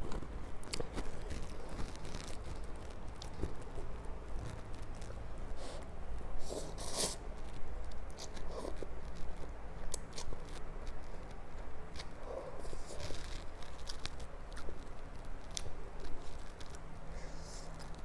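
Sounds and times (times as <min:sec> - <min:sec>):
chewing and mouth noises: 0:00.1 - 0:18.0.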